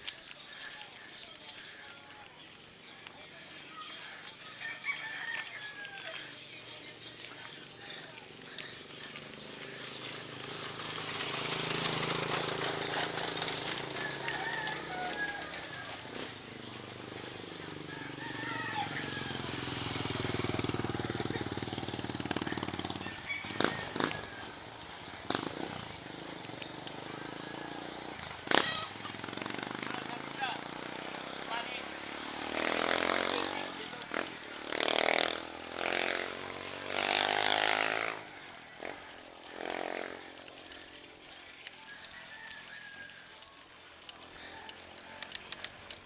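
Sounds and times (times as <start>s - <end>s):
motorcycle engine passing: 0.0s - 46.0s.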